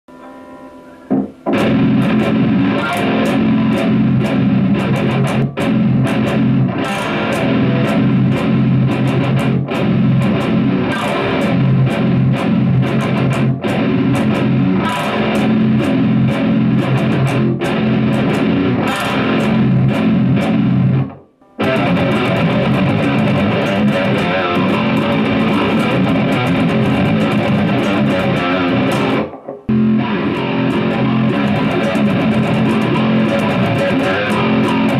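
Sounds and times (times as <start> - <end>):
distorted electric guitar riffs: 0.0 - 34.9.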